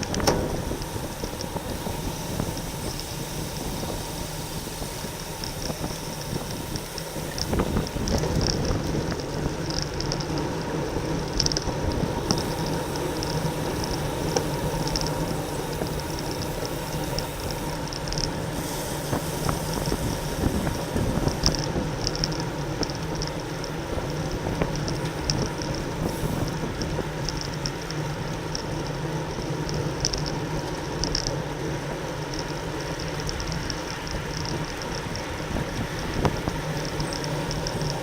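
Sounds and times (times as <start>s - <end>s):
bicycle tyre and drivetrain noise: 0.0s - 38.0s
wind rumble on microphone: 0.0s - 38.0s.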